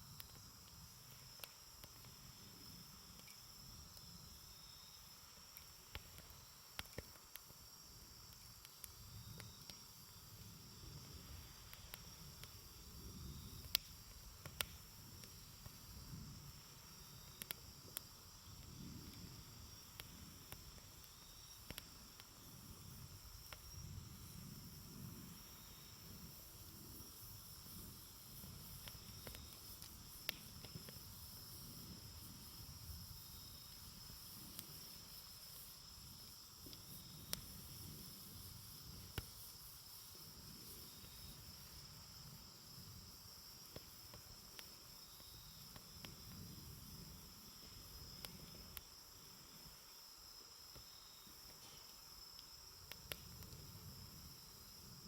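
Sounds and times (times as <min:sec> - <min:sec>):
campfire crackling and popping: 0:00.0 - 0:49.8, 0:50.6 - 0:55.0
insects chirring: 0:00.0 - 0:55.0.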